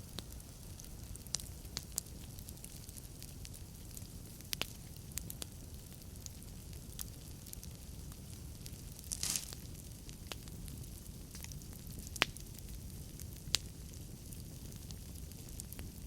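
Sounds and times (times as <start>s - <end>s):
burning logs popping: 0.0s - 16.0s
fire crackling: 0.0s - 16.0s
flames burning: 0.0s - 16.0s.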